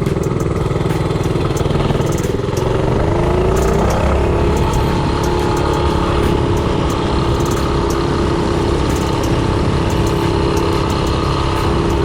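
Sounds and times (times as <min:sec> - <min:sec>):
mini-bike engine running: 0:00.0 - 0:12.0.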